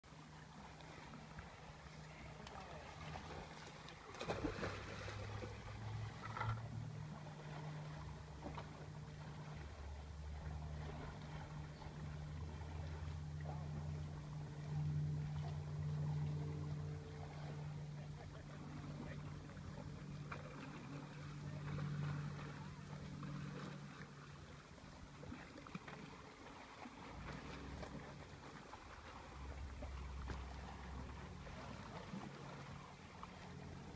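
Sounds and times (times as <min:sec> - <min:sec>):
low engine hum: 0:00.1 - 0:33.9.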